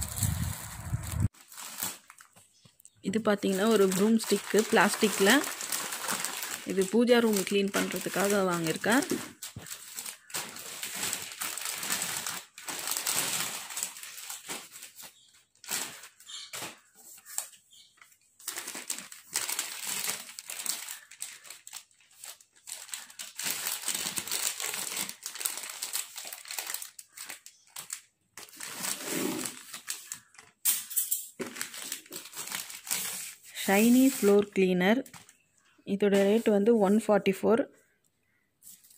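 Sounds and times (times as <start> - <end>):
plastic wrapping crinkling: 0.0 - 35.4.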